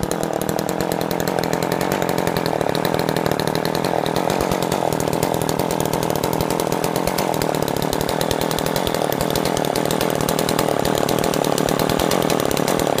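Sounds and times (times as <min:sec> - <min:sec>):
ice auger two-stroke engine running: 0:00.0 - 0:13.0.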